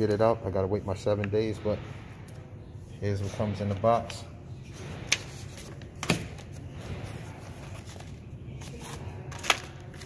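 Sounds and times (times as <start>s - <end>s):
steady low background noise: 0.0s - 10.0s.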